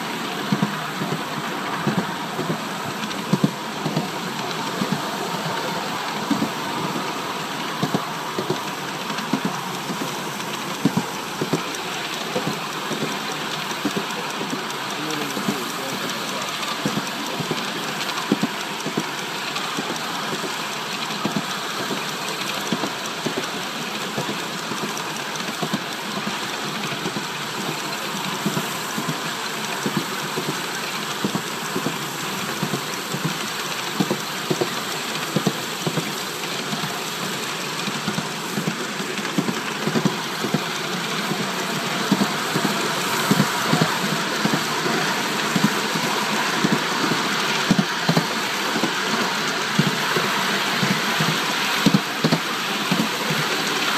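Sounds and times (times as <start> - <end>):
steam locomotive exhaust: 0.0 - 53.9
wheels clicking on rails: 0.0 - 53.9.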